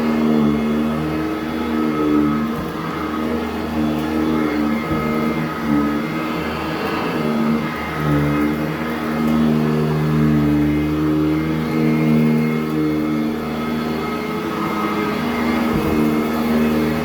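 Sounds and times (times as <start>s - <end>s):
vacuum cleaner running on carpet: 0.0s - 17.0s.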